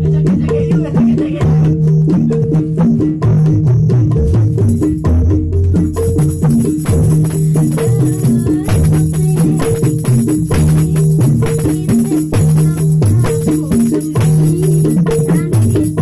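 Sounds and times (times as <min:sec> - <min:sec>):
hand drums: 0:00.0 - 0:16.0
jingling percussion: 0:00.0 - 0:16.0.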